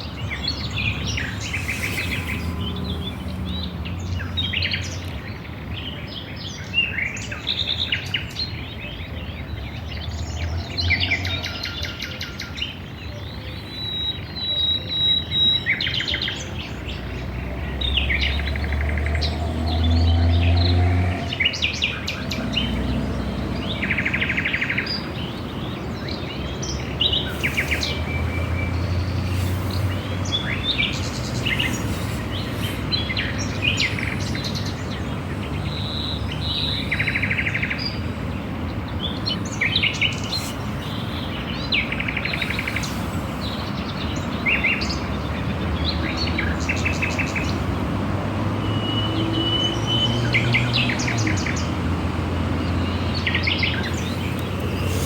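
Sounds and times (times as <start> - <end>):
wild birds chirping and singing: 0.0 - 55.0.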